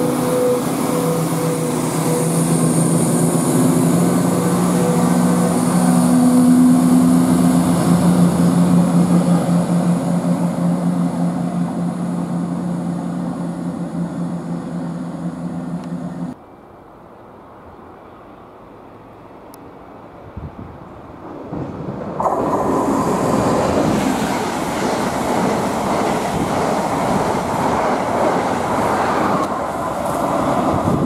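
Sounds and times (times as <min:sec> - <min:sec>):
train wheel noise: 0:00.0 - 0:16.4, 0:21.3 - 0:31.0
diesel train engine drone: 0:00.0 - 0:31.0.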